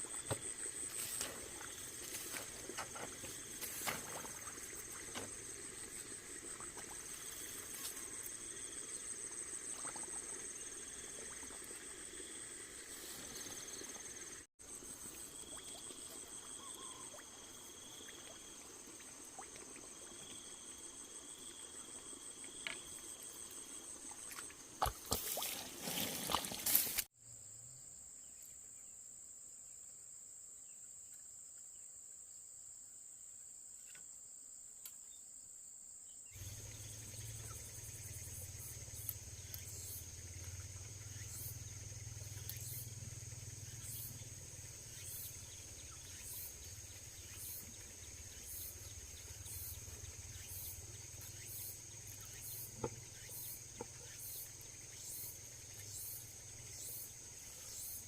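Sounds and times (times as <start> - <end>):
insects trilling: 0.0 - 28.9, 36.2 - 58.0.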